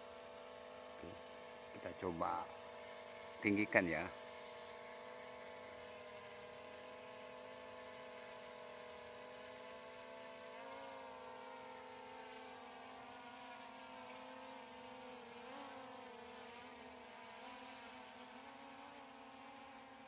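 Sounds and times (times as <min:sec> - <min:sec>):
drone motors humming: 0:00.0 - 0:20.0.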